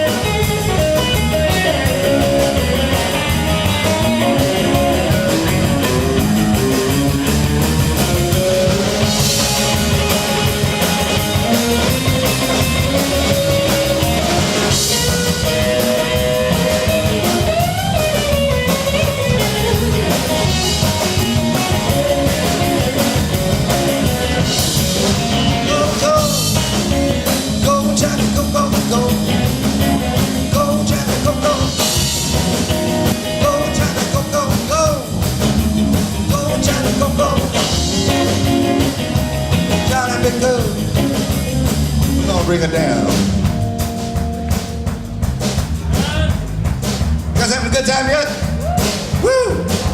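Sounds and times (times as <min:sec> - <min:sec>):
electric guitar bending notes: 0:00.0 - 0:49.9
rock band playing live: 0:00.0 - 0:49.9.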